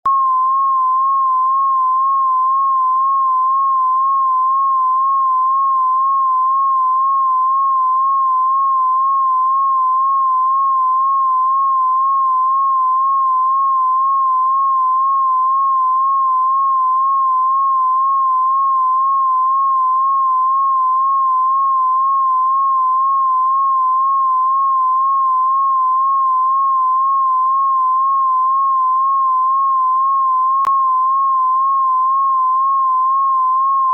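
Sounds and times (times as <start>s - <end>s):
wobbling high pure tone: 0.1s - 33.9s.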